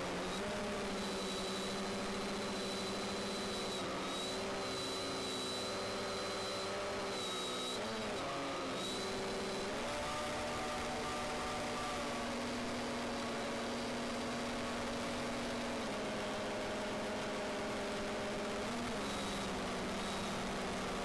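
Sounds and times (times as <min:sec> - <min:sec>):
drone motors humming: 0:00.0 - 0:21.0.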